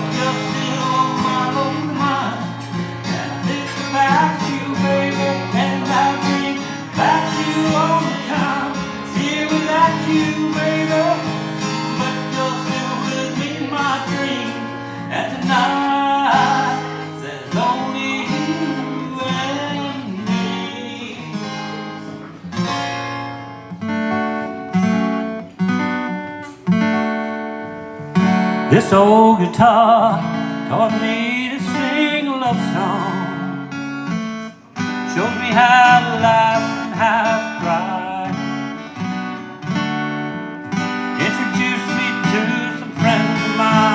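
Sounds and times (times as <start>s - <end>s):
acoustic guitar playing: 0.0s - 43.9s.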